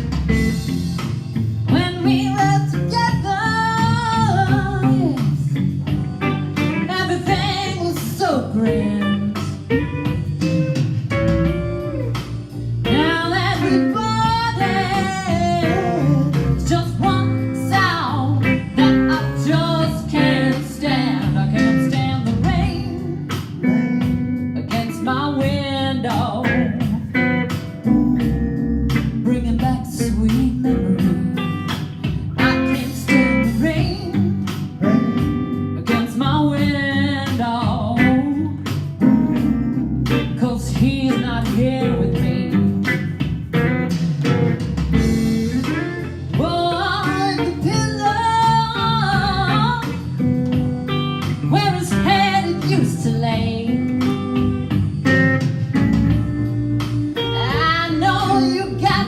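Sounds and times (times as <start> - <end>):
guitar accompaniment: 0.0 - 59.0
woman singing: 1.7 - 5.6, 6.6 - 10.2, 12.8 - 39.0, 40.1 - 43.2, 45.1 - 55.1, 55.9 - 59.0.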